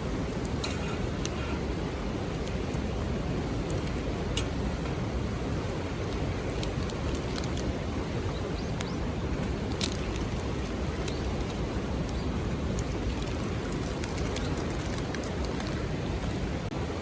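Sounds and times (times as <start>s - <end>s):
campfire crackling and popping: 0.0s - 16.8s.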